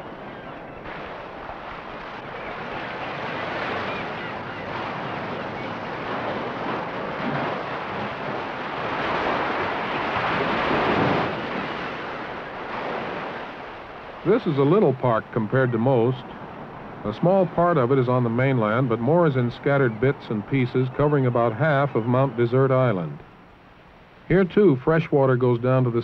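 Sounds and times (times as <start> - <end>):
surf rushing: 0.0 - 26.0.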